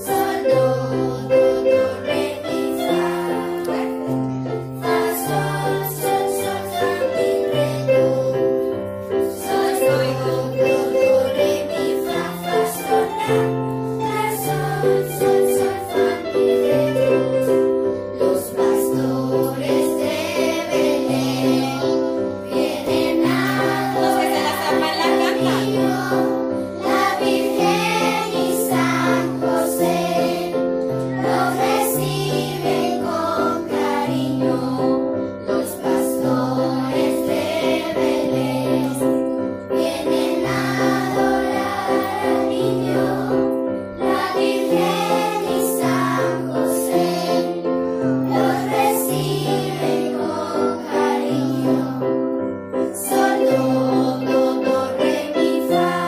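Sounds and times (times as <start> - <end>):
children singing together: 0.0 - 56.0.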